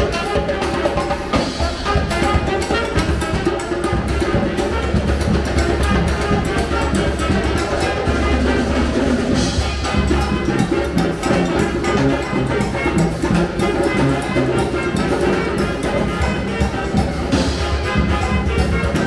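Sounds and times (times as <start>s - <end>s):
brass band playing: 0.0s - 19.0s
drum kit beat: 0.0s - 19.0s
trumpet: 0.0s - 19.0s
tuba bass line: 0.0s - 19.0s.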